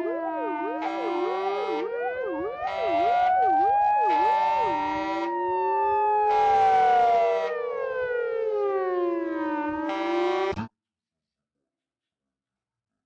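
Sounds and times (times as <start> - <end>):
fire engine sirens wailing: 0.0 - 10.7
steady blaring horn tones: 0.0 - 10.7.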